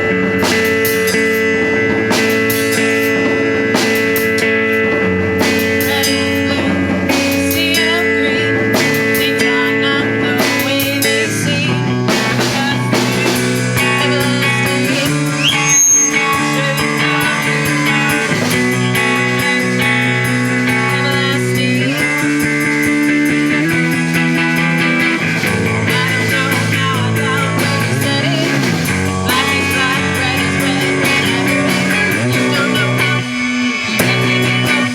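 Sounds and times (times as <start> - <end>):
bass guitar: 0.0 - 34.9
drum kit with cymbal hits: 0.0 - 34.9
electric guitar chords: 0.0 - 34.9.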